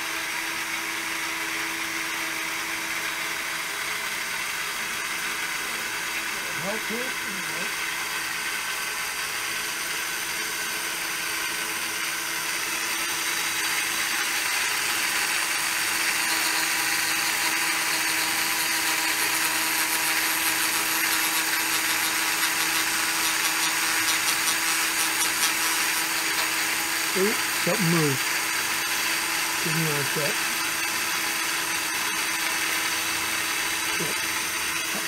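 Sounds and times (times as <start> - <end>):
rotary cutter whining: 0.0 - 35.0.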